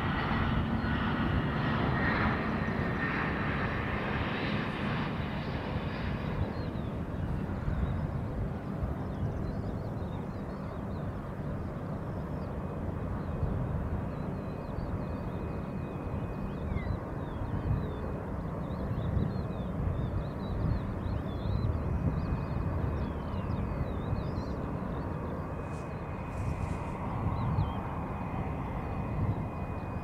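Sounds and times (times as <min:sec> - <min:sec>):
thin steady whine: 0:00.0 - 0:20.6, 0:21.2 - 0:30.0
distant jet airliner rumble: 0:00.0 - 0:30.0.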